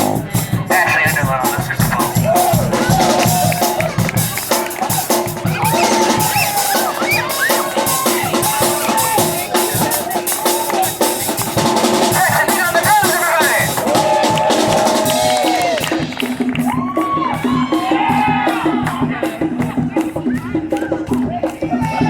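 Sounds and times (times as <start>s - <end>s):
wind instruments playing melody: 0.0s - 18.6s
snare and bass drum beat: 0.0s - 22.0s.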